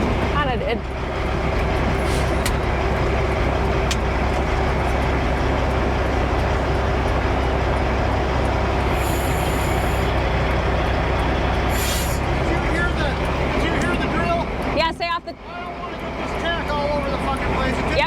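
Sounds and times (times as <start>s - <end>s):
dump truck diesel engine running: 0.0s - 18.0s.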